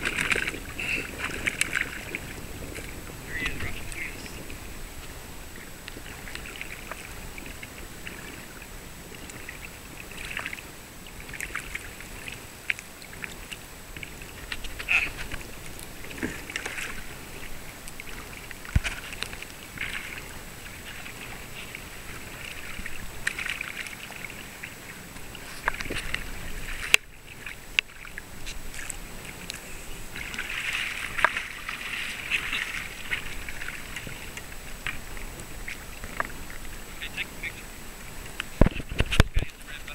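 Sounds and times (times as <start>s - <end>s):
waves lapping against kayak hull: 0.0s - 39.9s.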